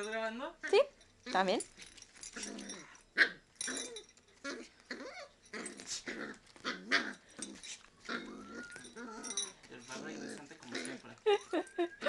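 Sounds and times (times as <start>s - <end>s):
dogs growling and yipping: 2.1s - 11.8s.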